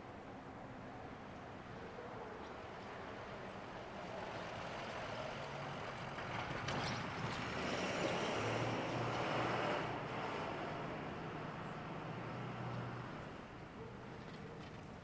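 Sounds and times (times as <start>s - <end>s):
heavy vehicle engine rumble: 2.5s - 15.0s.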